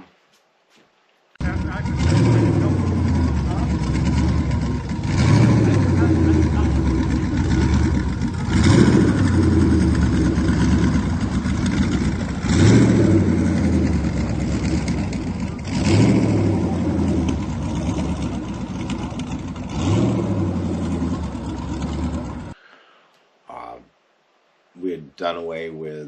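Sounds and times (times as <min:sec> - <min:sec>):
boat engine choppy idle and revving: 0:01.4 - 0:22.6.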